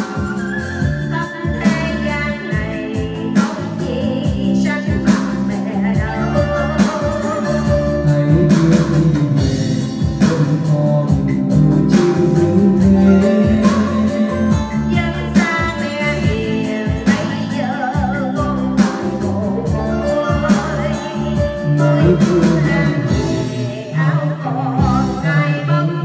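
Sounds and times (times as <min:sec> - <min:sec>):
karaoke backing track: 0:00.0 - 0:26.0
person singing with vibrato: 0:00.0 - 0:26.0.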